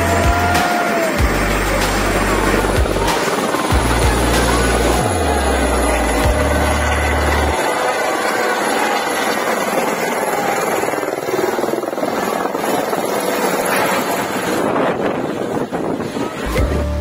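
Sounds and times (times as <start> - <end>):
helicopter lifting off: 0.0 - 16.9.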